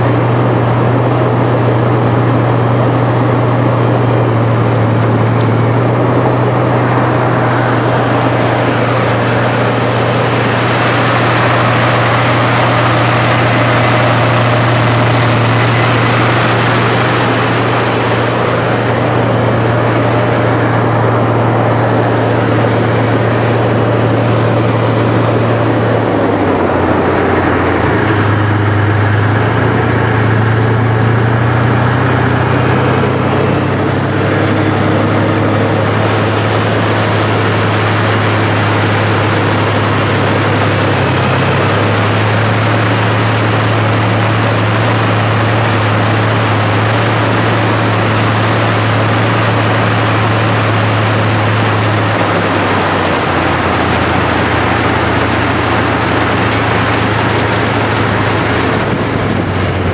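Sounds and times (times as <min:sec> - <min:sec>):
dense rumbling: 0:00.0 - 0:59.9
tank diesel engine droning: 0:00.0 - 0:59.9.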